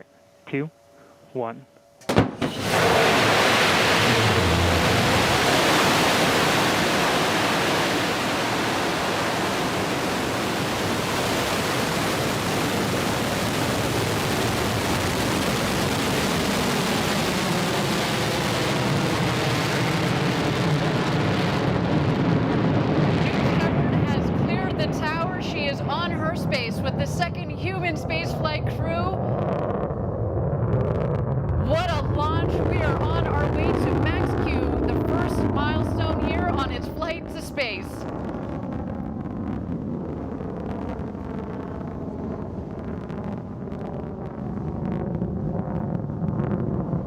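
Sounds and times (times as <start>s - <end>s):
rocket engine roaring: 2.0s - 47.0s.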